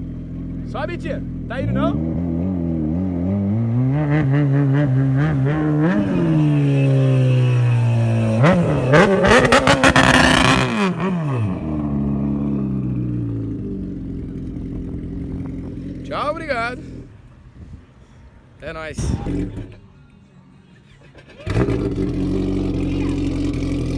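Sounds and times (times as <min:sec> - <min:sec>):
car engine revving: 0:00.0 - 0:17.3, 0:21.1 - 0:23.9.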